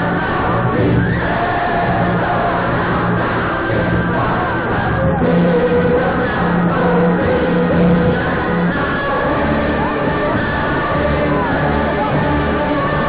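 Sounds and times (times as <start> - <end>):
voices singing: 0.0 - 13.0.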